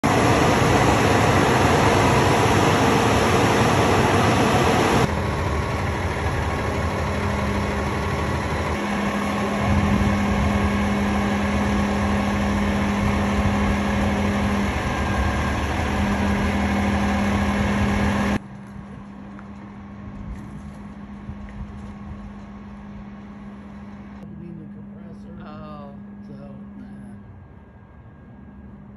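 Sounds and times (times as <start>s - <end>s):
truck engine humming: 0.0s - 28.9s.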